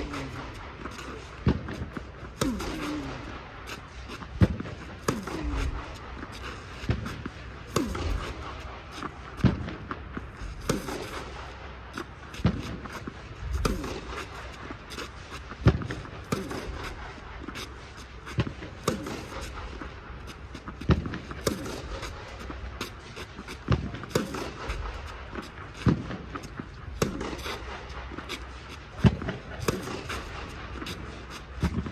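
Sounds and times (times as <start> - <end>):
tennis balls hit with racket: 0.0 - 9.6, 10.5 - 11.3, 11.9 - 31.9
tennis balls bouncing on clay: 0.0 - 11.3, 11.9 - 31.9.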